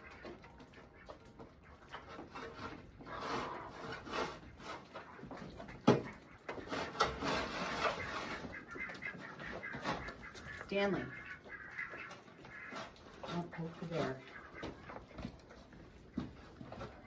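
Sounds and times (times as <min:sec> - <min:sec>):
scraping and rustling: 0:01.2 - 0:17.0.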